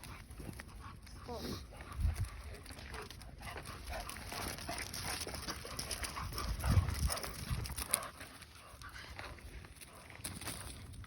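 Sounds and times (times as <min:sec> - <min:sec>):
dogs playing and scuffling: 0:00.0 - 0:11.0.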